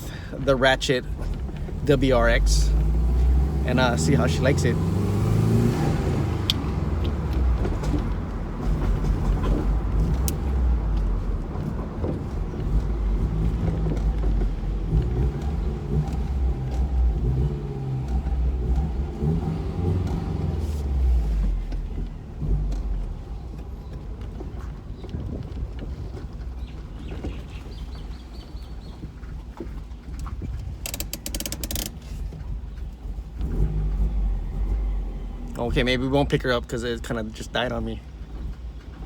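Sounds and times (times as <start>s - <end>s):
car engine running: 0.0s - 39.0s
road noise: 0.0s - 39.0s.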